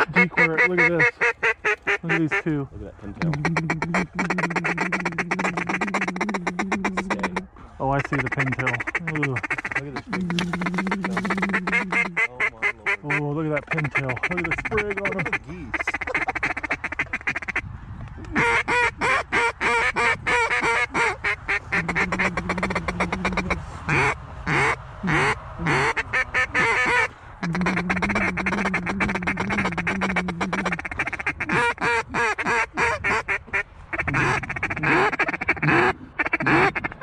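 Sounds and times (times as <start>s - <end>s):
duck calls quacking: 0.0s - 17.6s, 18.2s - 37.0s.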